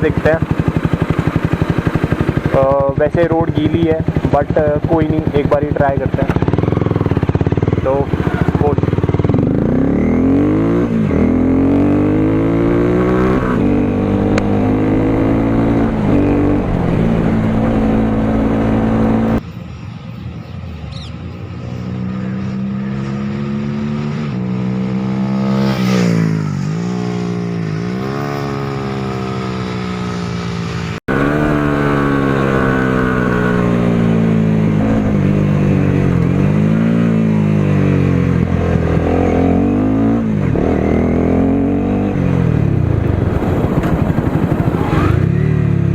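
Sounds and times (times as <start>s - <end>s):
motorcycle engine revving: 0.0s - 19.4s, 21.5s - 45.9s
motorcycle passing by: 3.7s - 19.4s, 20.9s - 45.9s.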